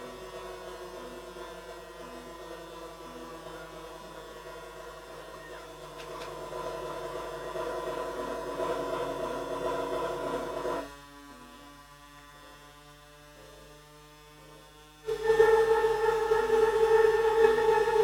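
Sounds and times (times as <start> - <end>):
droning synthesizer chord: 0.0 - 11.6, 14.6 - 18.0.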